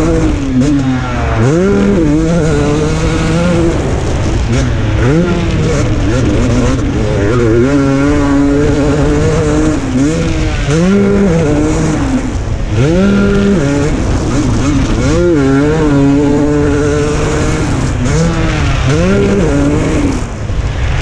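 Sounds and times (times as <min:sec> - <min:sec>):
motocross engine revving: 0:00.0 - 0:21.0.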